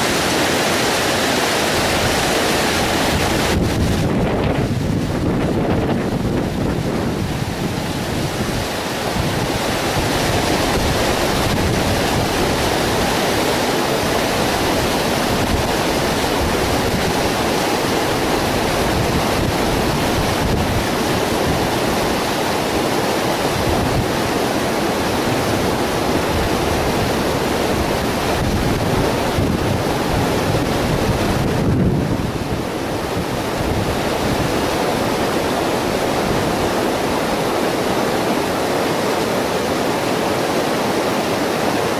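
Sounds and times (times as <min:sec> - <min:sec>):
wind buffeting microphone: 0:01.7 - 0:38.7.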